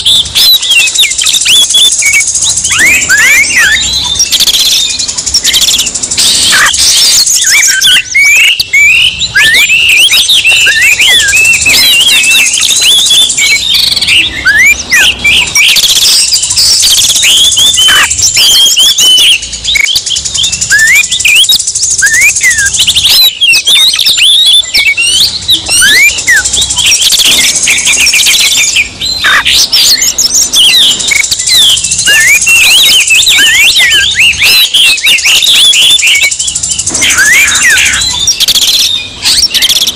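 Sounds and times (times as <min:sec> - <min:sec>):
birds singing rapid chirps: 0:00.0 - 0:39.9.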